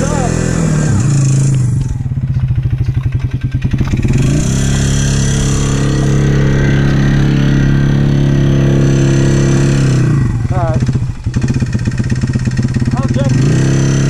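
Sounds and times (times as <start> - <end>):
engine chugging and revving: 0.0 - 14.0.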